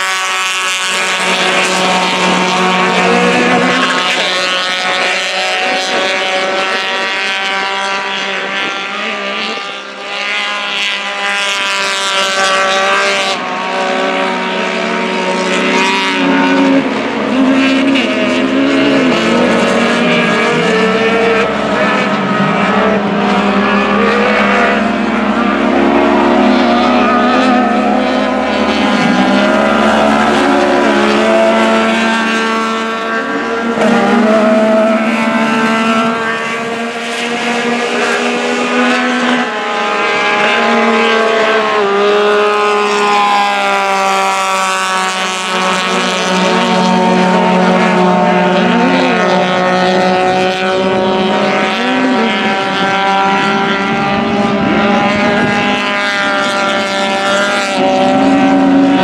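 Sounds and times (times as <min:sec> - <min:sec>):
race engines revving: 0:00.0 - 0:59.0.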